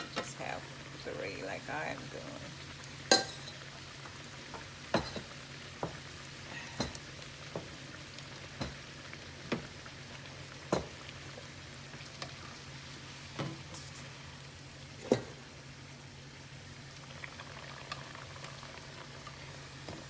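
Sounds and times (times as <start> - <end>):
dough sizzling in hot oil: 0.0 - 20.0.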